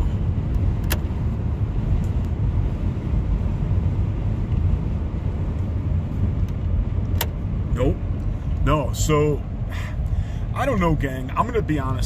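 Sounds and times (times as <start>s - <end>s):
truck cruising heard from inside: 0.0s - 12.0s.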